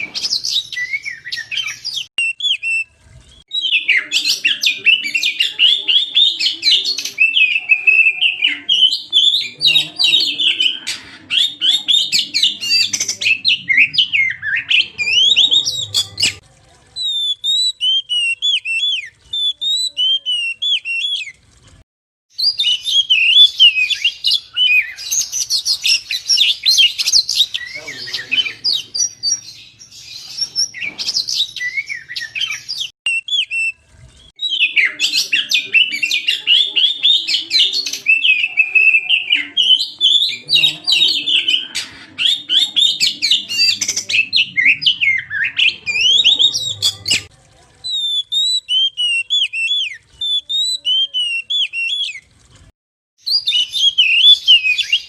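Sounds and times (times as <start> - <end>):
bird singing whistles and chatter: 0.0 - 16.4, 17.0 - 21.4, 22.4 - 52.3, 53.2 - 55.0.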